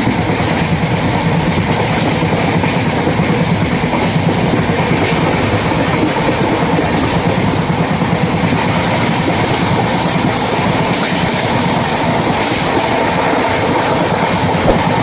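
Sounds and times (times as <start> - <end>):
train wheels rumbling on rails: 0.0 - 15.0
wheels clickety-clack: 0.0 - 15.0.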